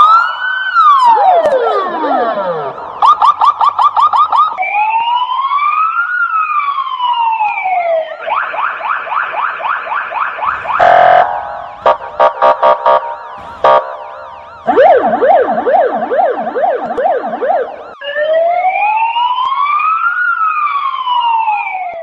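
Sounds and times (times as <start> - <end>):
electronic police siren: 0.0 - 22.0
harsh siren blast: 0.0 - 22.0.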